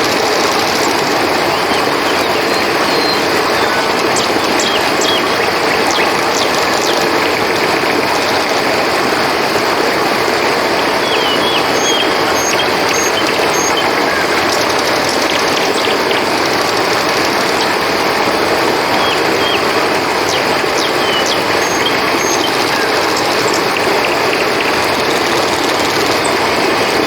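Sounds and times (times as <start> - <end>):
crickets droning: 0.0 - 27.0
river water flowing: 0.0 - 27.0.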